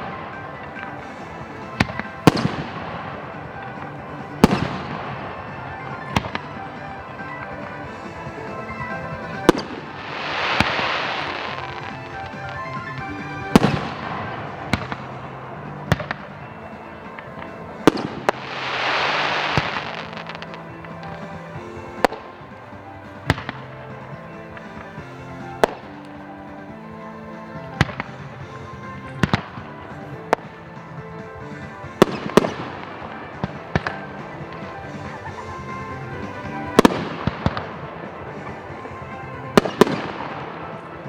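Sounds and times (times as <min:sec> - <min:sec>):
background music: 0:00.0 - 0:41.0
fireworks bursting with bangs: 0:00.0 - 0:41.0
fireworks hissing: 0:00.0 - 0:41.0.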